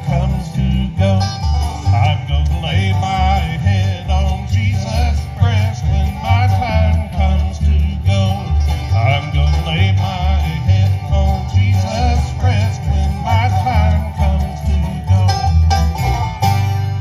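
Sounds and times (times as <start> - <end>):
banjo: 0.0 - 17.0
bluegrass band playing: 0.0 - 17.0
pulsing bass beat: 0.0 - 17.0.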